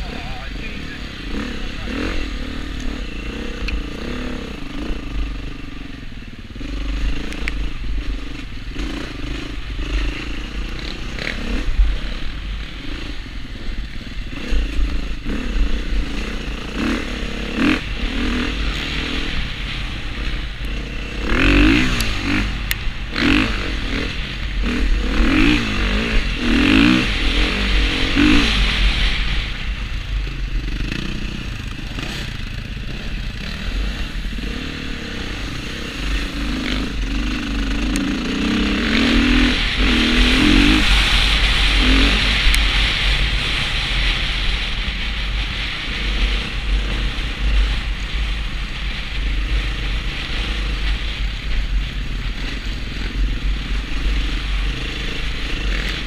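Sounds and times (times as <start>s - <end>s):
dirt bike engine revving: 0.0s - 56.0s
wind rumble on microphone: 0.0s - 56.0s.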